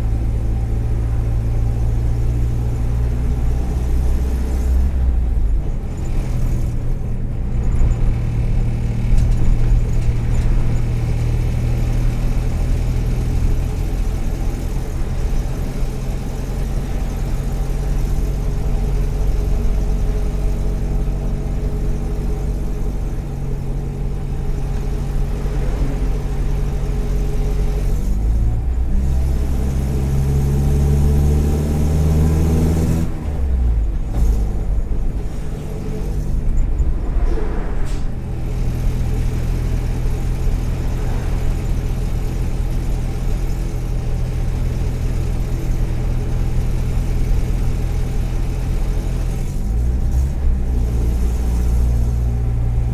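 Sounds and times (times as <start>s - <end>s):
van engine running and misfiring: 0.0s - 37.1s, 38.1s - 52.9s.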